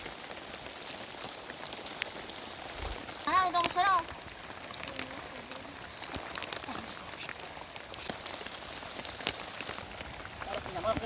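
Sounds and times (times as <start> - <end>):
rain falling: 0.0 - 11.0
raindrops hitting a surface: 0.0 - 11.0.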